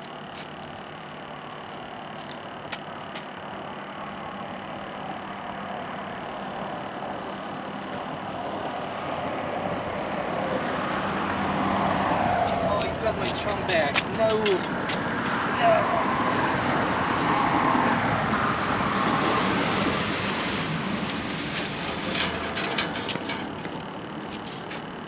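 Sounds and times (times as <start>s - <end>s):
road vehicle approaching: 0.0s - 25.0s.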